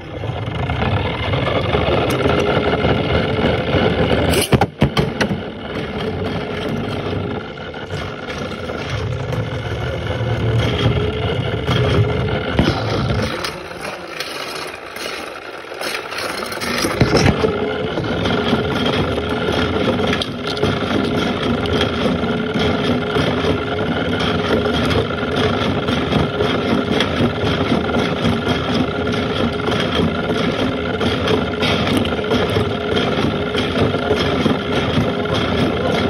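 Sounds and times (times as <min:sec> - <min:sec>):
spinning top whirring and scraping: 0:00.0 - 0:36.0
steady machine hum: 0:00.0 - 0:36.0.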